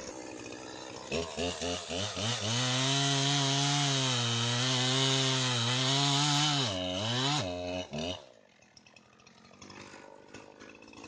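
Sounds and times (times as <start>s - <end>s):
chainsaw cutting through log: 0.0s - 11.0s.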